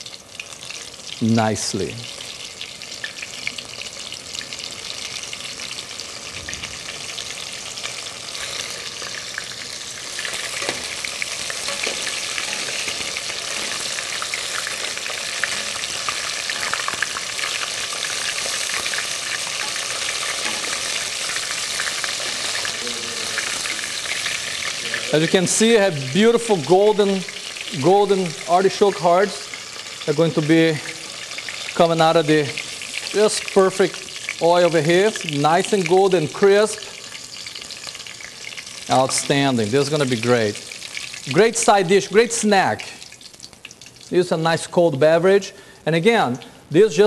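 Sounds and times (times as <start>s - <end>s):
food deep-frying in oil: 0.0s - 46.1s.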